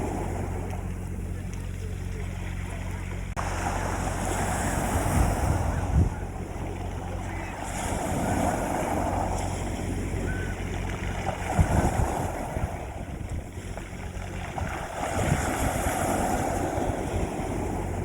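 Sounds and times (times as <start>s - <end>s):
sea waves washing onto beach: 0.0s - 18.0s
steady low hum: 0.0s - 18.0s.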